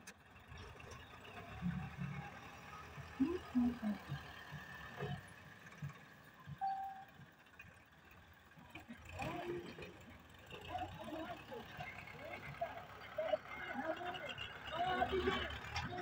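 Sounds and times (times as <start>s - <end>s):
tractor engines running: 0.0s - 16.0s.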